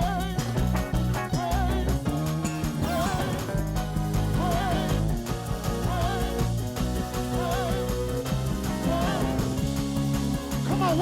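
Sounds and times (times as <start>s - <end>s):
church band playing groove: 0.0s - 11.0s
held bass notes: 0.0s - 11.0s.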